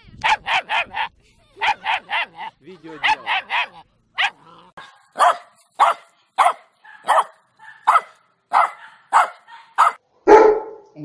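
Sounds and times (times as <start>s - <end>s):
small dog barking: 0.2s - 10.8s.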